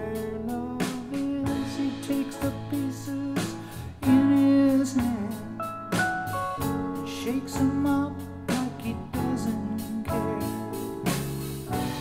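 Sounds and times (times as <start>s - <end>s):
song through loudspeakers: 0.0s - 12.0s.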